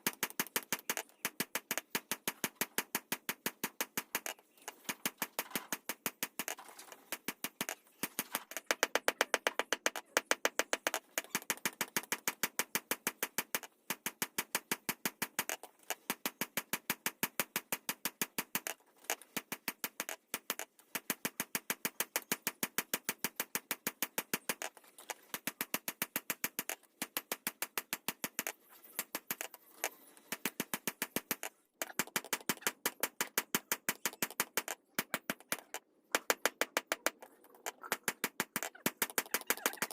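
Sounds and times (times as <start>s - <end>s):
rapid light hammer taps: 0.0s - 39.9s.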